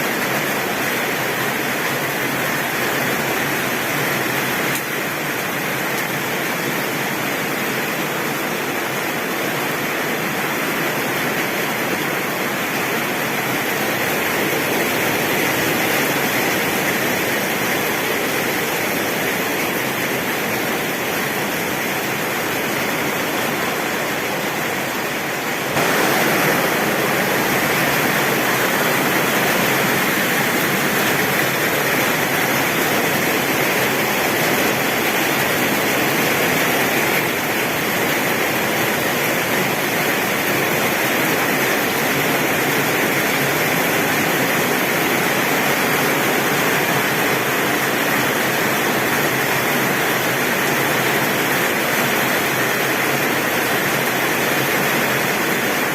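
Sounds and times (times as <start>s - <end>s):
heavy rain on a tin roof: 0.0s - 55.9s.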